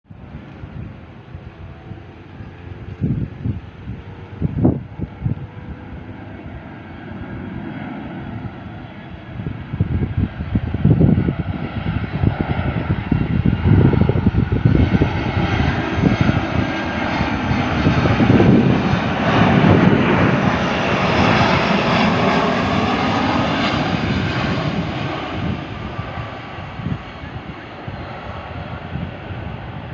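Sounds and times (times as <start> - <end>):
wind buffeting microphone: 0.0 - 29.9
airliner engines passing: 0.1 - 29.9.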